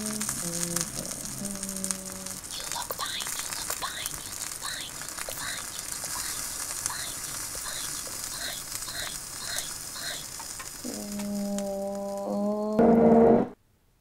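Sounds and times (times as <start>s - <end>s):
eggs sizzling in a pan: 0.0s - 13.3s.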